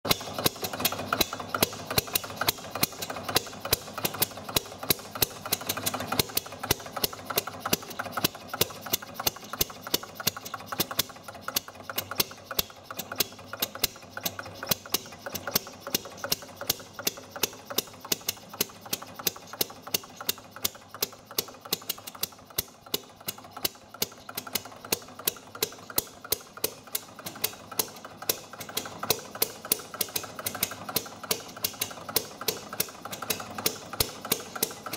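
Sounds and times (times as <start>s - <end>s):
small two-stroke engine popping: 0.0s - 34.9s.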